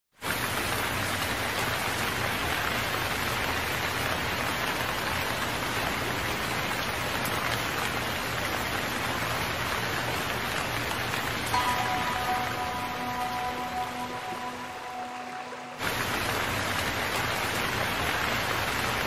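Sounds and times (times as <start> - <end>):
steady rain falling: 0.1 - 19.0.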